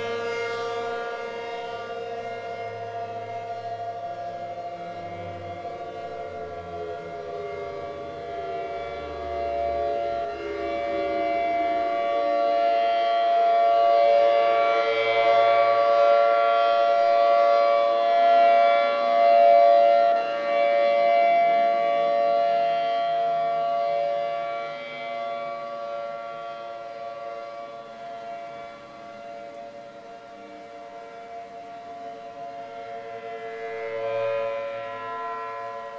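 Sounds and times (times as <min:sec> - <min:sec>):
outdoor warning siren chord: 0:00.0 - 0:35.9.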